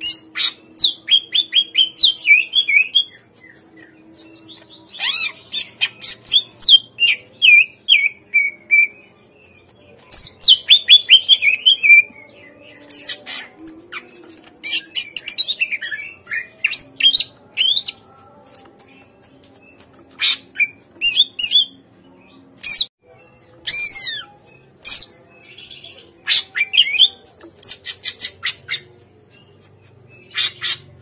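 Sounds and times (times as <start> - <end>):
bird chirping and whistling: 0.0 - 9.1, 10.0 - 18.0, 20.1 - 21.8, 22.6 - 29.0, 30.2 - 31.0.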